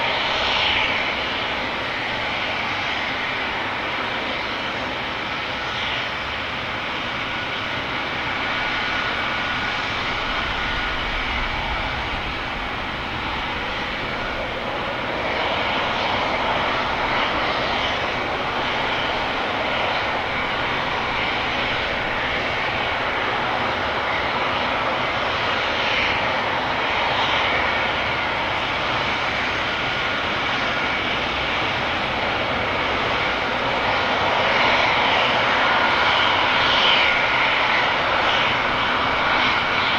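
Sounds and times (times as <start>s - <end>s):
helicopter rotor roar: 0.0s - 39.9s
helicopter turbine whine: 0.0s - 39.9s.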